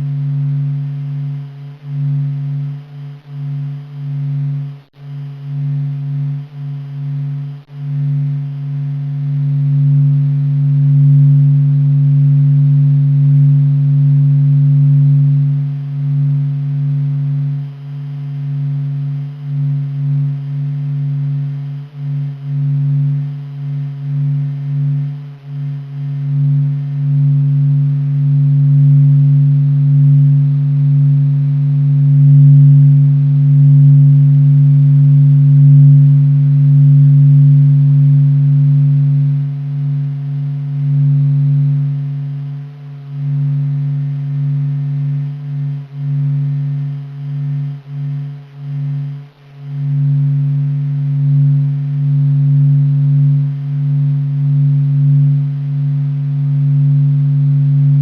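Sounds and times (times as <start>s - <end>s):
low steady drone of held tones: 0.0s - 58.0s.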